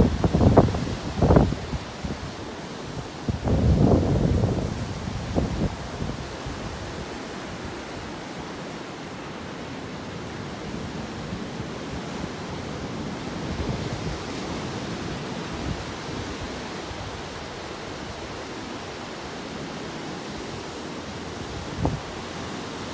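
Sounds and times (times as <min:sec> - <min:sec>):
ocean surf breaking on beach: 0:00.0 - 0:22.9.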